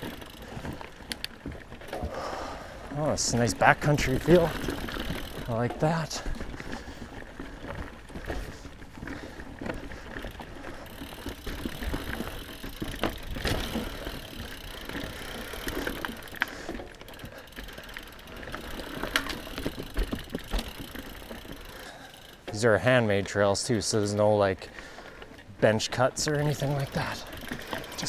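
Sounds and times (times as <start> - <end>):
bike chain and frame rattling: 0.0 - 28.0
bike tyres rolling on dirt: 0.0 - 28.0.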